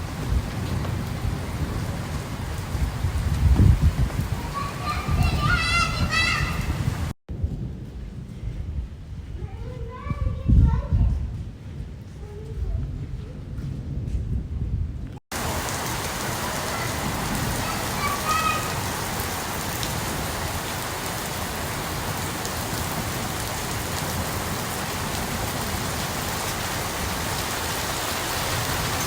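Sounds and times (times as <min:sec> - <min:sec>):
steady rain falling: 0:00.0 - 0:10.4, 0:15.3 - 0:29.0.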